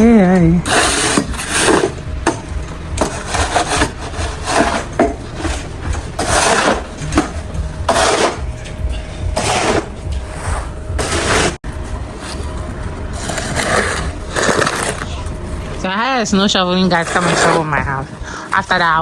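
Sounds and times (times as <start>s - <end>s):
snow shovel scraping snow: 0.0s - 15.9s, 16.8s - 18.5s.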